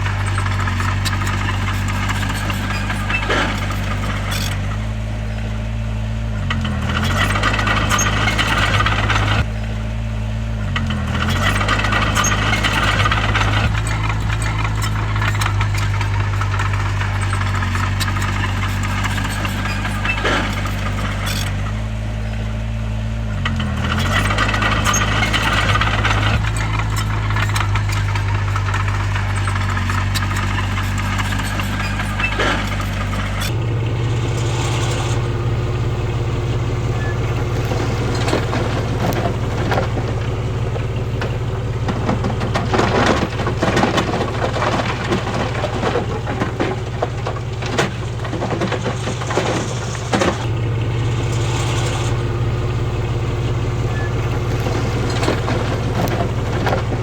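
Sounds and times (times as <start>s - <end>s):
bulldozer diesel engine running: 0.0s - 57.0s
tracks rattling and clanking: 0.0s - 57.0s.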